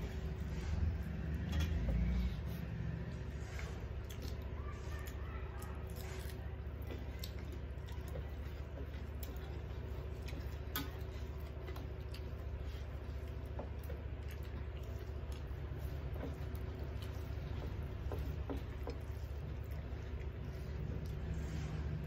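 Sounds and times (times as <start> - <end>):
fingers mixing rice and curry: 0.0 - 22.0
steady low hum: 0.0 - 22.0
chewing: 0.1 - 22.0.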